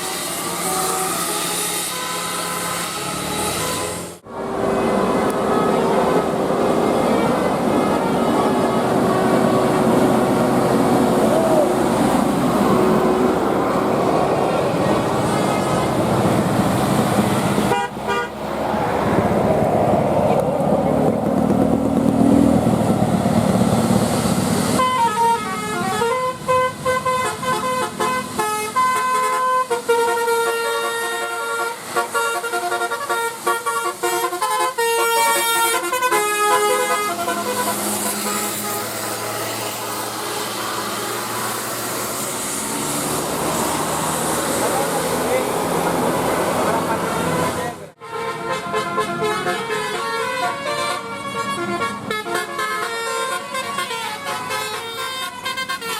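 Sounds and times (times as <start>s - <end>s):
bus multi-tone horn melody: 0.0s - 19.1s, 24.7s - 55.9s
road traffic noise: 0.0s - 55.9s.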